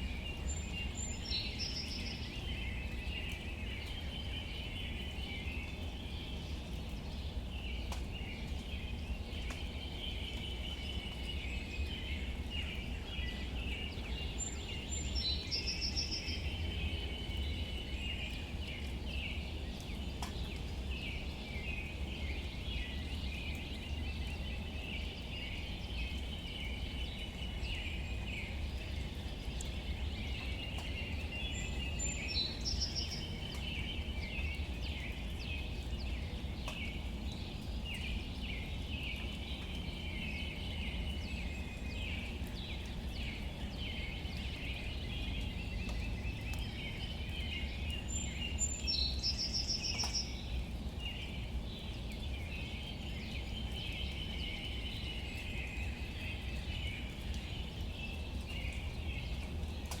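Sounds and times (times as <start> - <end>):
light rain on leaves: 0.0 - 60.0.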